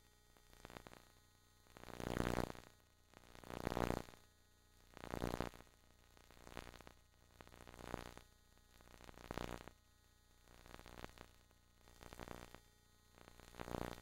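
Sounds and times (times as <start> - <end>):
static-like hiss: 0.0 - 14.0.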